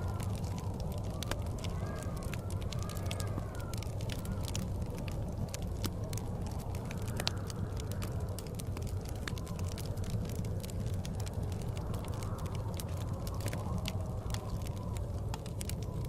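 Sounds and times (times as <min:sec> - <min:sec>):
blizzard wind rumbling and whistling: 0:00.0 - 0:16.0
wood fire crackling and popping: 0:00.0 - 0:16.0.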